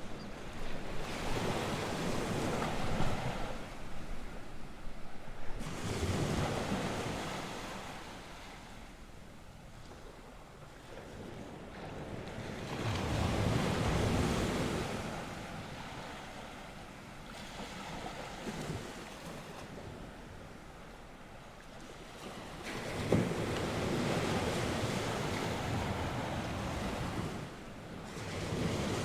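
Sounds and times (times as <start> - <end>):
waves breaking on the shore: 0.0 - 29.0.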